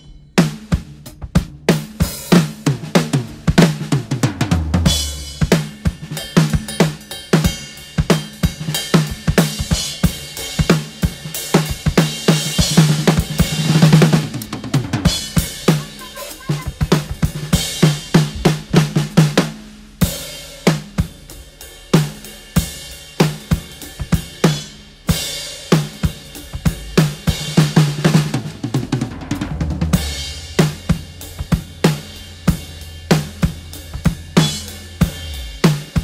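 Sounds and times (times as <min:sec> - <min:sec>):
drum kit played fast: 0:00.0 - 0:36.0.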